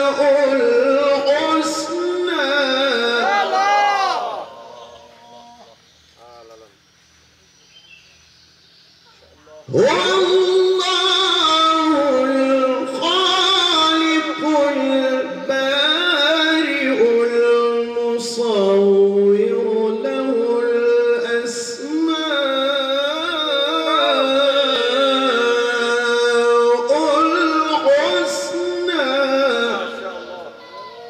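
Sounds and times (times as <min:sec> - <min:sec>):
man reciting melodically into microphone: 0:00.0 - 0:05.1, 0:09.6 - 0:31.0.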